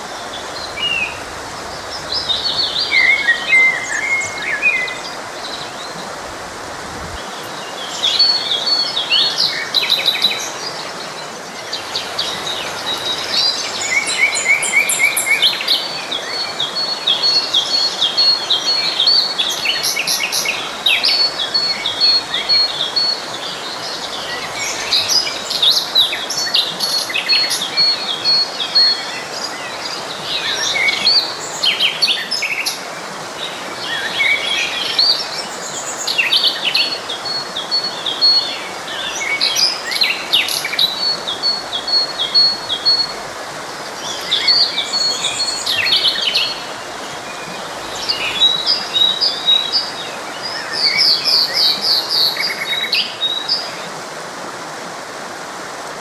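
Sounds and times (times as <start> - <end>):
songbirds chirping and trilling: 0.0 - 54.0
forest stream rushing: 0.0 - 56.0.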